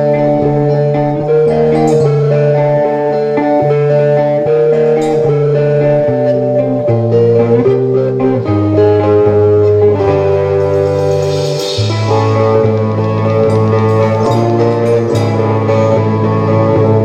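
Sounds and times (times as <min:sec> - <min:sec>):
electric guitars: 0:00.0 - 0:17.0
steady bass line: 0:00.0 - 0:17.0.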